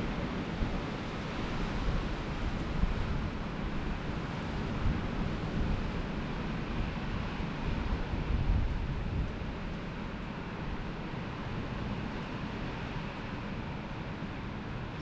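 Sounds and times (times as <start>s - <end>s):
wind buffeting microphone: 0.0s - 12.2s
blizzard wind gusting: 0.0s - 15.0s.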